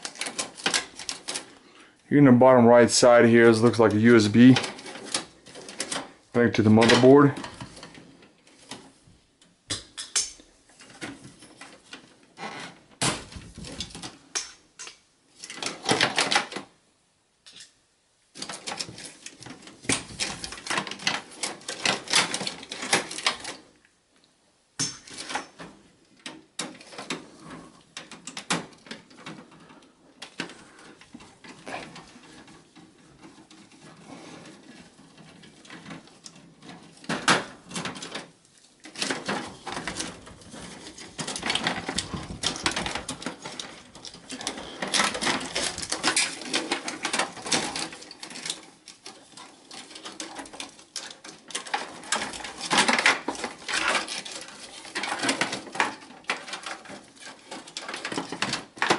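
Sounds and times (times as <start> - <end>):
cables and connectors rattling: 0.0 - 9.0, 10.0 - 16.7, 18.3 - 23.8, 24.8 - 58.9.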